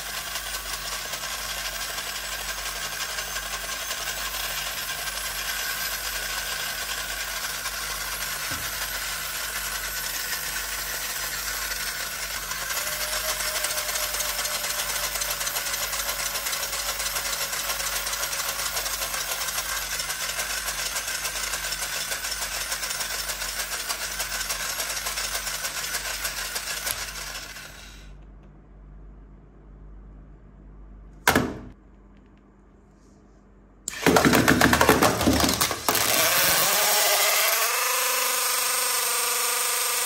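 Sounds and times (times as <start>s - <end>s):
toy motor buzzing rattle: 0.0s - 28.1s, 33.9s - 40.0s.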